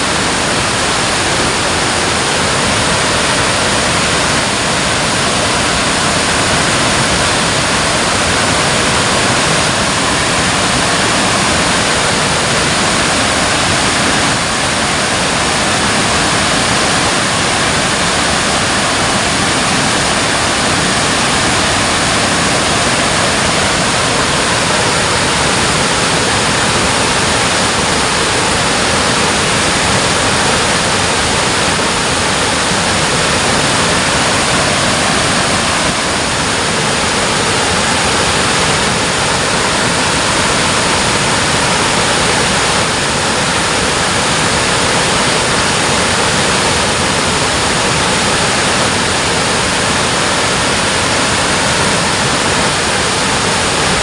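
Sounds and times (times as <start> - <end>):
water rushing over a dam: 0.0 - 54.0.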